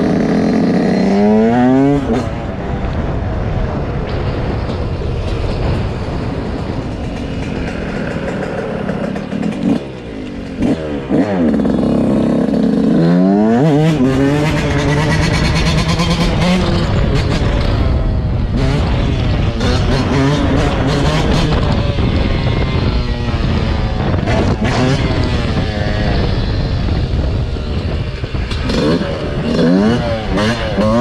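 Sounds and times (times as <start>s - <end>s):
dirt bike engine revving: 0.0s - 2.6s, 7.1s - 31.0s.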